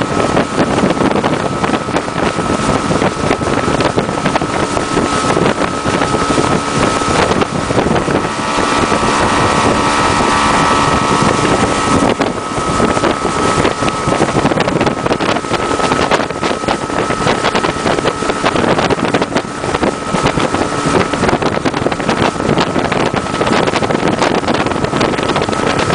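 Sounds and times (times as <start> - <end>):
high engine whine: 0.0 - 25.9
motorboat engine drone: 0.0 - 25.9
rushing water and spray: 0.0 - 25.9
wind buffeting microphone: 0.0 - 25.9.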